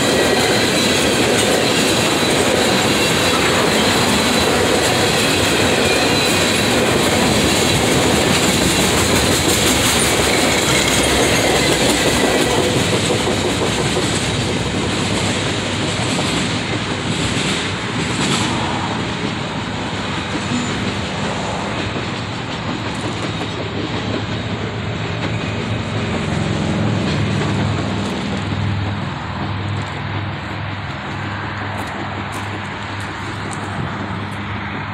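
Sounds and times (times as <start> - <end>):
freight train rolling past: 0.0 - 34.9.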